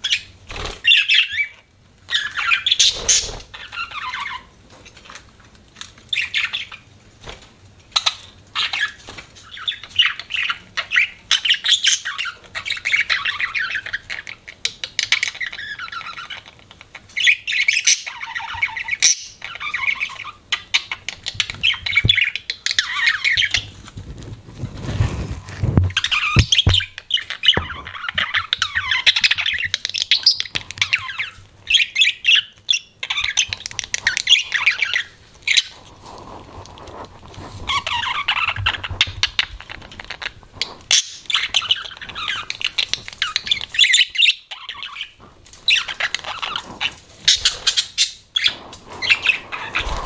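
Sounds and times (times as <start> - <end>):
budgerigars chattering and warbling: 0.0 - 4.5, 8.0 - 23.6, 26.0 - 35.7, 37.7 - 50.0.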